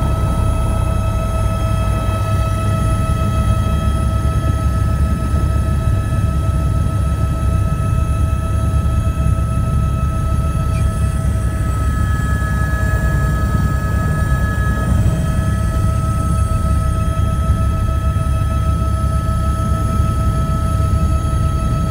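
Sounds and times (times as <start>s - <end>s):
helicopter rotor rumble: 0.0s - 21.9s
turbine whining tones: 0.0s - 21.9s.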